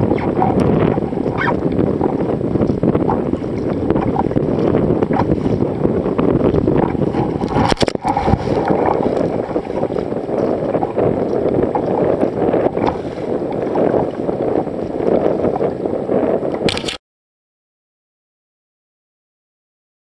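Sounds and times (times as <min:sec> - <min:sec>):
choppy water washing around kayak: 0:00.0 - 0:17.0
wind buffeting microphone: 0:00.0 - 0:17.0.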